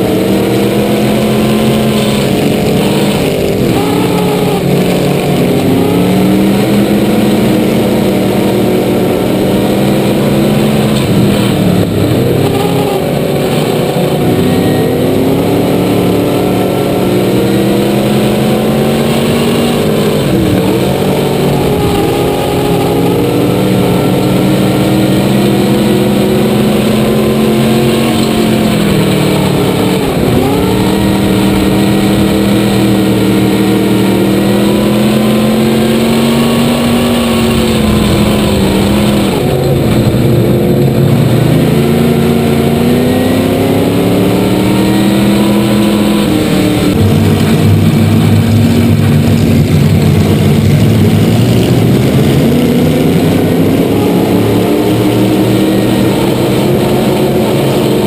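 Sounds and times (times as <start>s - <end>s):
race car engine at racing speed: 0.0s - 58.0s.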